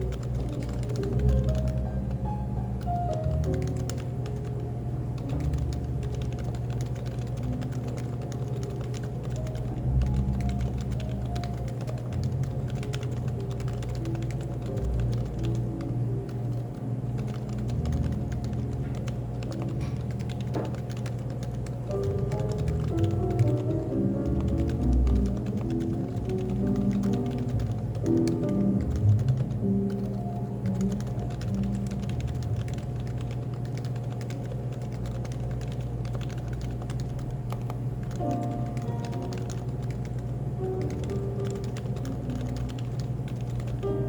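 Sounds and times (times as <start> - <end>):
background music: 0.0 - 34.6, 38.2 - 44.0
keyboard keystroke clicks: 0.0 - 43.9
low cafe background hum: 0.0 - 44.0.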